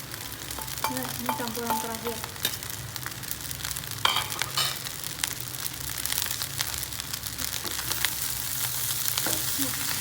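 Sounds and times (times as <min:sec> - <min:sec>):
food crackling in a pan: 0:00.0 - 0:10.0.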